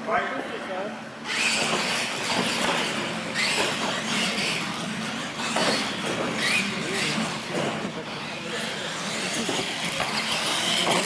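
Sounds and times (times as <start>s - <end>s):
rc truck motors whining: 1.2s - 11.0s.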